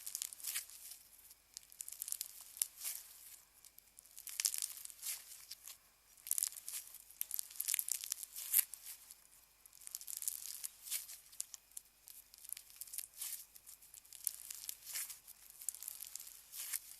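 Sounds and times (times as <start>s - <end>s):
sticky slime crackling and popping: 0.0s - 16.9s.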